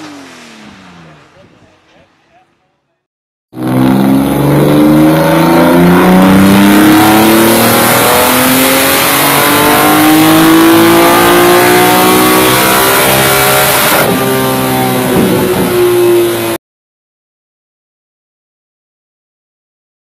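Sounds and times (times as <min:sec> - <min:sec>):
race car engine revving: 0:00.0 - 0:16.6.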